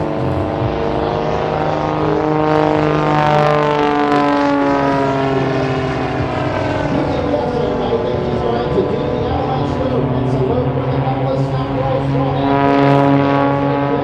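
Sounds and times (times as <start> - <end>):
biplane engine and propeller: 0.0 - 14.0.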